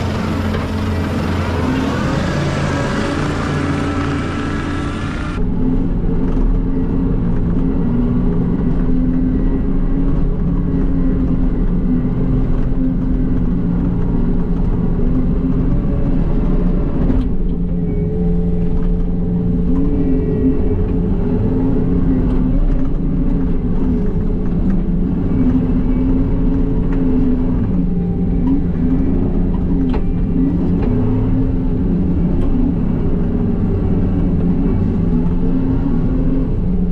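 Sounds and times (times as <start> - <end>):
skid loader diesel engine running: 0.0 - 36.9.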